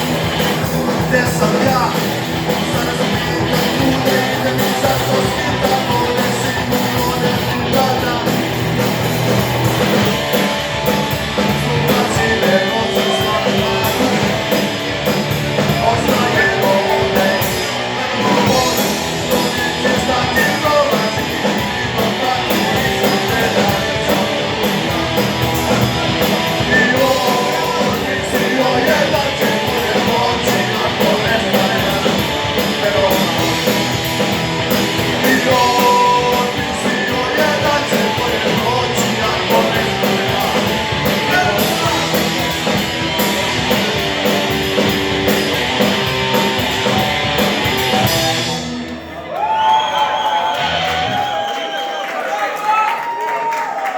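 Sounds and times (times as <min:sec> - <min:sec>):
rock band playing live: 0:00.0 - 0:51.8.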